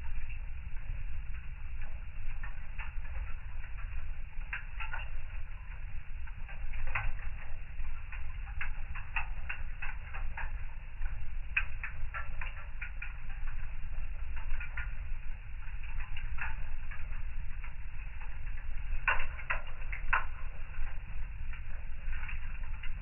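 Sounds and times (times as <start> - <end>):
low rumble of flames: 0.0 - 23.0
wood fire crackling: 0.0 - 23.0.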